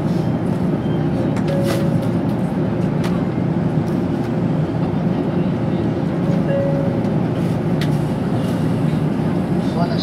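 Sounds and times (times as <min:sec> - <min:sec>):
train car hum and rumble: 0:00.0 - 0:10.0.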